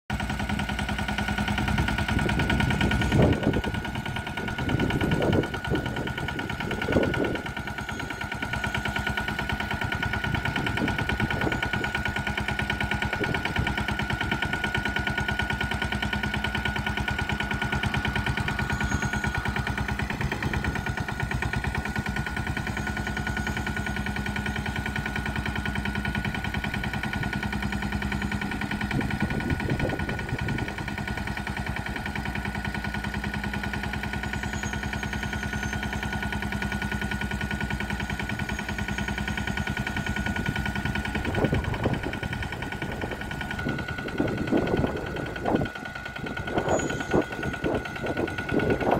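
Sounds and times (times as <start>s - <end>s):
tractor engine puttering: 0.1s - 48.9s.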